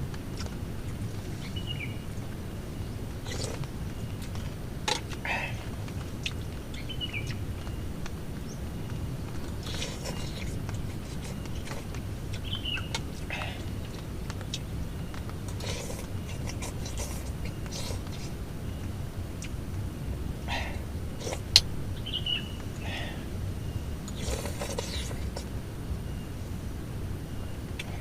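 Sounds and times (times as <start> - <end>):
wind and rain rumble: 0.0 - 28.0
bird chirping: 0.3 - 28.0.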